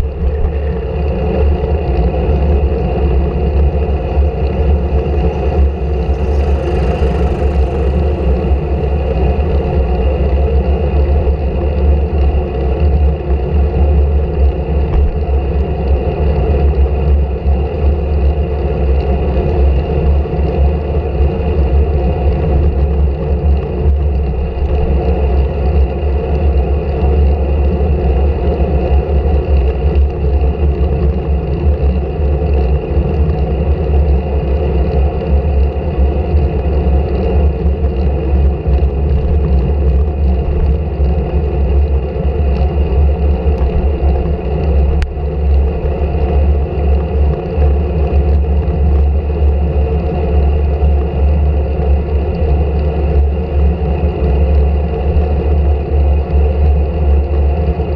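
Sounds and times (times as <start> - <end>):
bicycle tyres road noise: 0.0 - 57.9
low wind rumble: 0.0 - 57.9.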